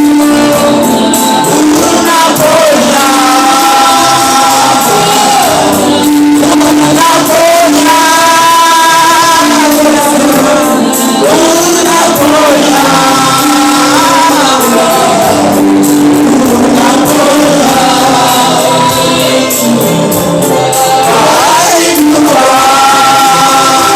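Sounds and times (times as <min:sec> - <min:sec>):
backing band: 0:00.0 - 0:23.9
gospel singers: 0:00.0 - 0:23.9.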